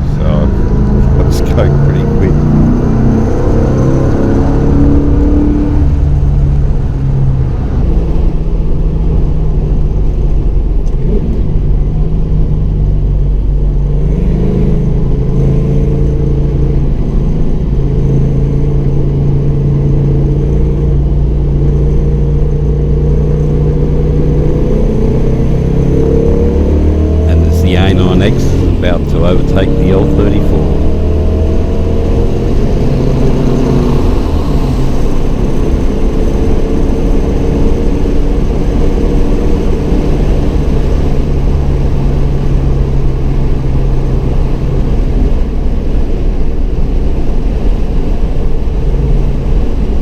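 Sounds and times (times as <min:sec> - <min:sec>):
car engine running hard: 0:00.0 - 0:50.0.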